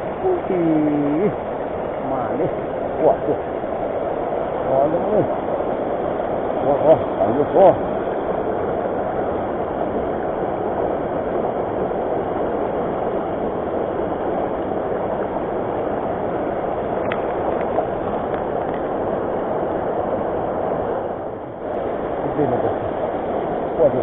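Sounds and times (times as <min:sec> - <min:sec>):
fast-flowing river rushing: 0:00.0 - 0:24.0.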